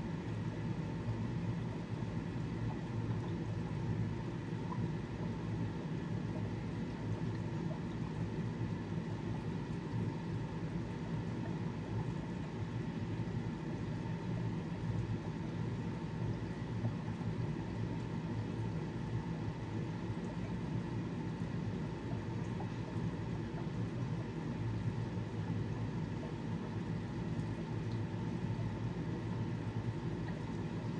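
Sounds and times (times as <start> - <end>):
aquarium equipment hum and hiss: 0.0 - 30.9.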